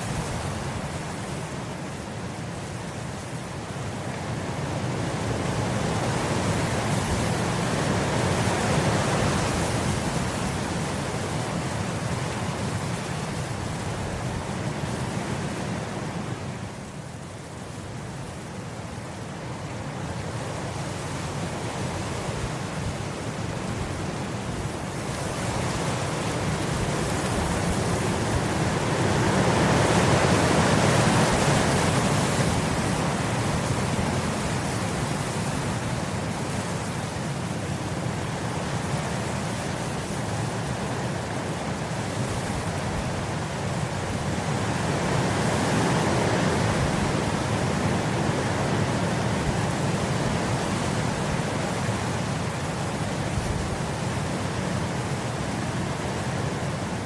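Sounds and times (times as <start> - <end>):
wind blowing across grass: 0.0 - 57.0.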